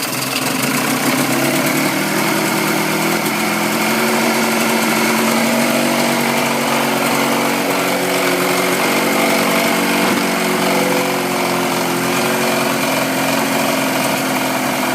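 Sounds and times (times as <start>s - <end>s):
outboard motor running: 0.0s - 14.9s.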